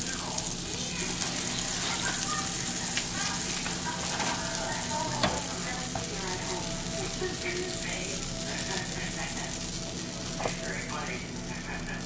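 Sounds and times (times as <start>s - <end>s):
butter sizzling on griddle: 0.0s - 12.0s.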